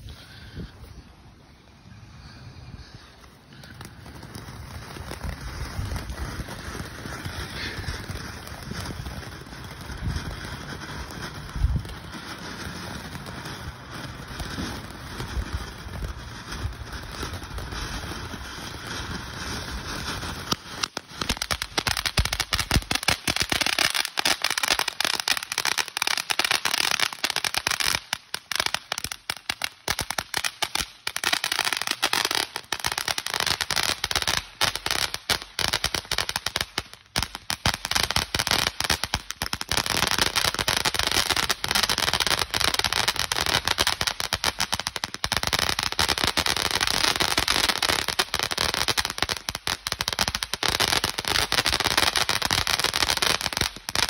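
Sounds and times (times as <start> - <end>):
firework crackling: 0.0 - 54.0
firework fountain hissing: 0.0 - 54.0.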